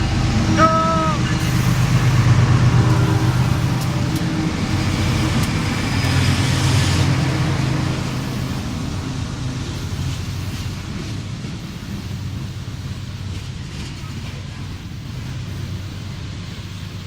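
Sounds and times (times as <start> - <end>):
diesel locomotive engine rumble: 0.0 - 17.0
wheel and rail noise: 0.0 - 17.0.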